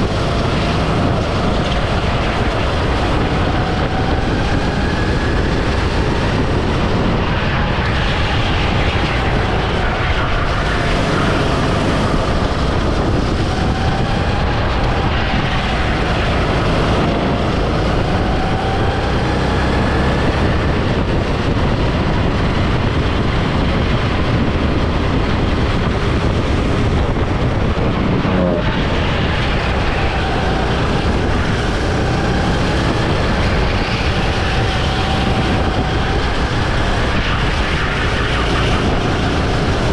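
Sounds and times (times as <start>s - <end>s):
go-kart engine revving: 0.0s - 39.9s
other karts passing: 0.0s - 39.9s
wind and road noise: 0.0s - 39.9s.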